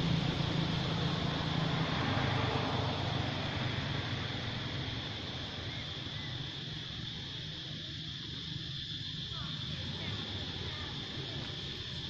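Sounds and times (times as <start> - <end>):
distant vehicle motor hum: 0.0 - 12.0
outdoor hiss: 0.0 - 12.0.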